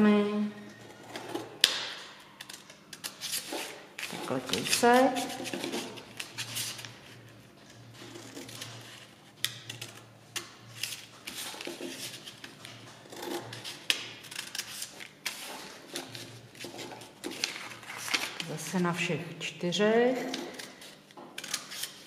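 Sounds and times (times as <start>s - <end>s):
scissors snipping paper: 1.2s - 6.8s, 8.1s - 18.5s, 20.2s - 22.0s.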